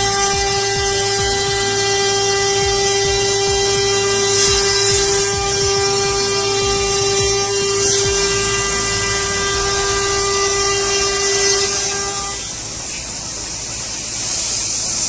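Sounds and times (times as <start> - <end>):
hiss: 0.0 - 15.0
router spindle high-pitched whine: 0.0 - 15.0.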